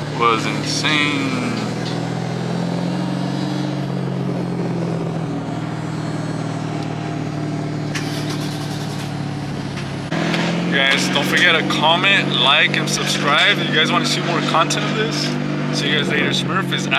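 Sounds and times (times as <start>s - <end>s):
car engine droning: 0.0s - 16.9s
road noise: 0.0s - 16.9s.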